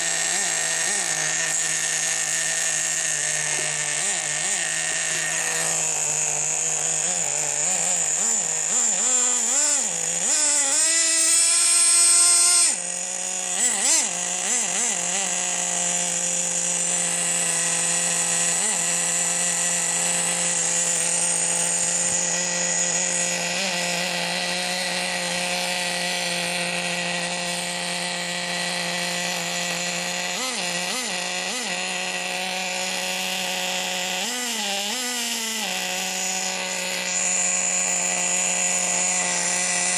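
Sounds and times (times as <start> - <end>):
nitro engine buzzing and revving: 0.0 - 39.9.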